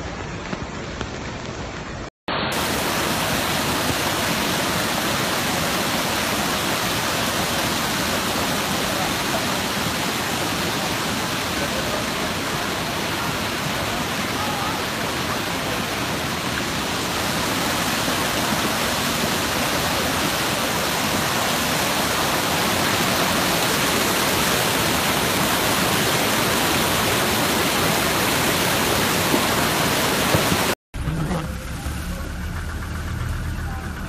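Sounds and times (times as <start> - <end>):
floodwater rushing: 0.0 - 34.0.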